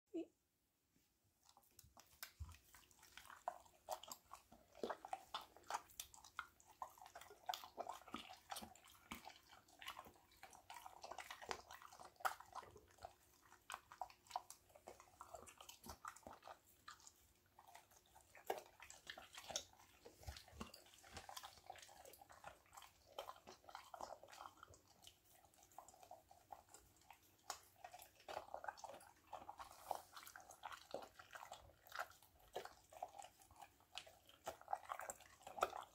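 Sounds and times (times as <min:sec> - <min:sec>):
dog chewing raw meat: 0:01.6 - 0:35.9.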